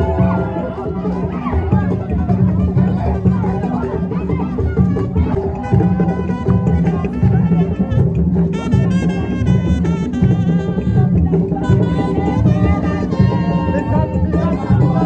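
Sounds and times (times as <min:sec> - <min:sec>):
dense loud drum rhythm: 0:00.0 - 0:15.0.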